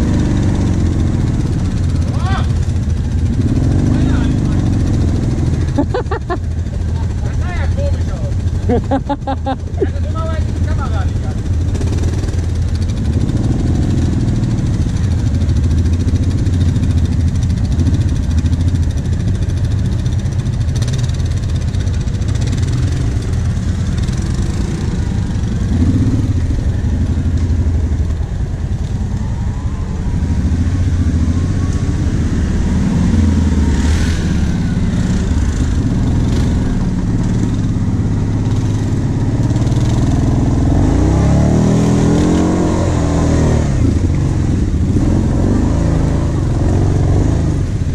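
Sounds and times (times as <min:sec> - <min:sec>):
quad bike engine revving: 0:00.0 - 0:29.0, 0:29.7 - 0:47.9.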